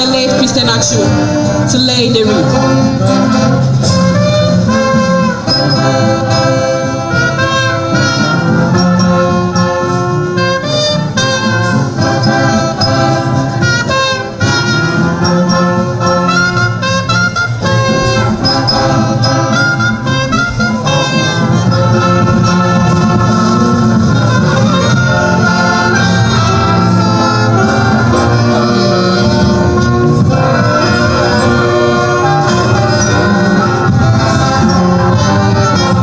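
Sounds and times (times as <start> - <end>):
brass band playing: 0.0 - 36.0.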